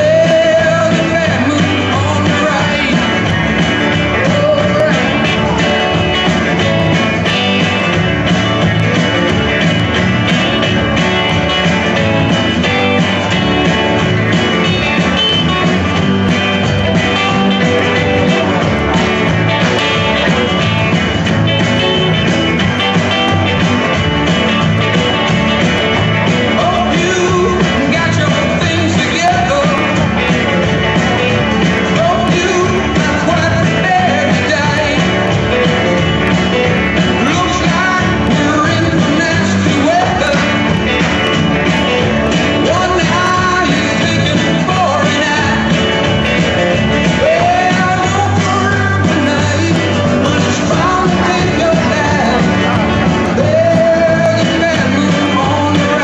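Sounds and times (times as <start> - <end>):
person singing: 0.0 - 8.0, 8.6 - 56.0
upbeat country music with guitar: 0.0 - 56.0.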